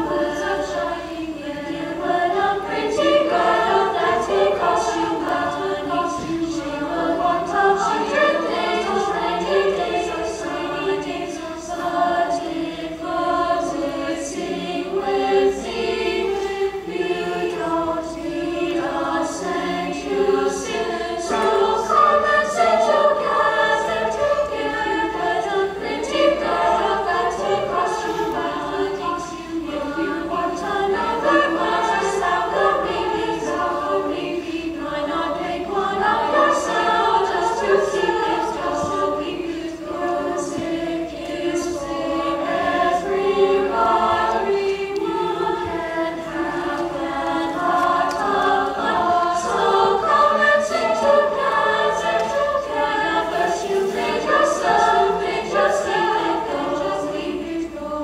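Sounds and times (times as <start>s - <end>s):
youth choir singing: 0.0s - 58.0s.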